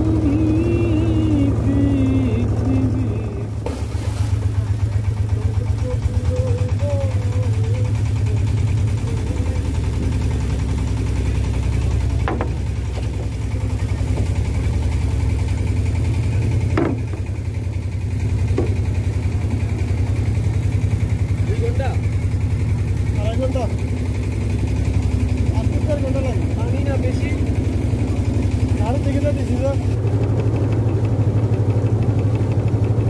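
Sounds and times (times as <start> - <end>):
boat engine running: 0.0 - 33.0.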